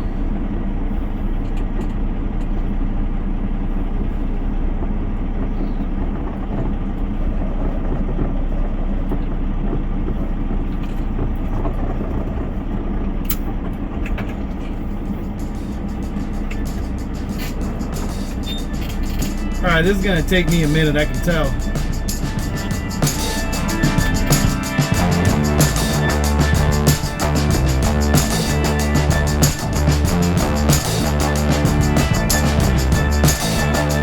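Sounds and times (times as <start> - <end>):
truck diesel engine droning: 0.0 - 34.0.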